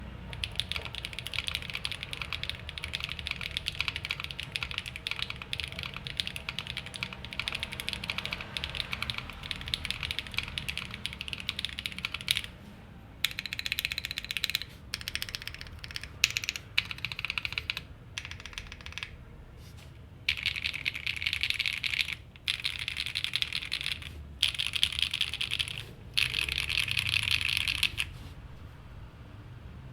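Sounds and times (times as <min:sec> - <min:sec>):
mechanical keyboard typing: 0:00.3 - 0:12.6, 0:13.2 - 0:19.2, 0:20.3 - 0:28.2.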